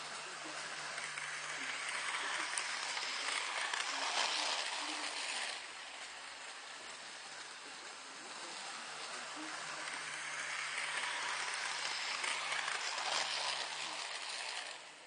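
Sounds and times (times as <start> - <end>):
toy train motor whirring: 0.0 - 15.0.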